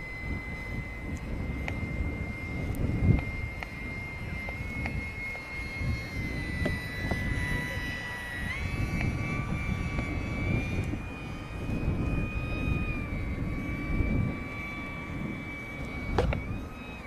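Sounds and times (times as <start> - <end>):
electric motor and propeller whining: 0.0 - 17.0
wind buffeting microphone: 0.0 - 17.0.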